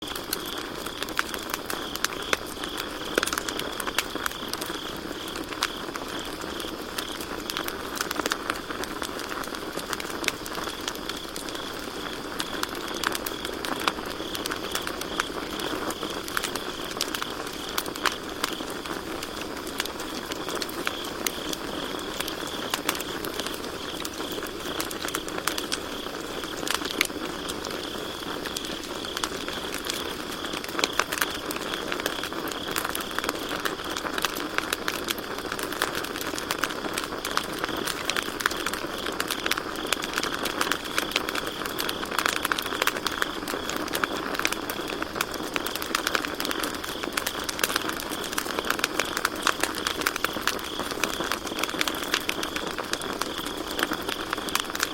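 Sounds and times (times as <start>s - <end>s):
campfire crackling: 0.0s - 54.9s
crickets chirping: 0.0s - 54.9s.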